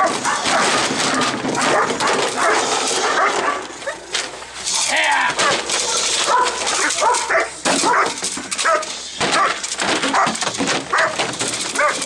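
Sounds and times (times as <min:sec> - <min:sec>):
dog barking: 0:00.0 - 0:04.1, 0:05.4 - 0:12.0.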